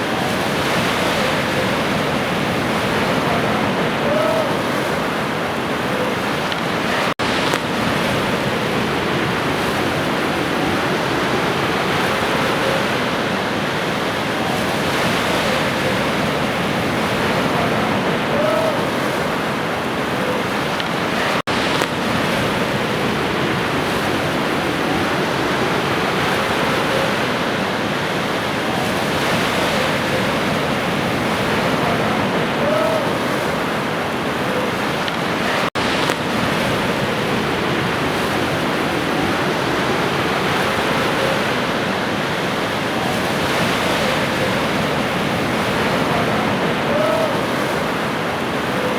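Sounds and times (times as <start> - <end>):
waves breaking on shore: 0.0 - 48.9.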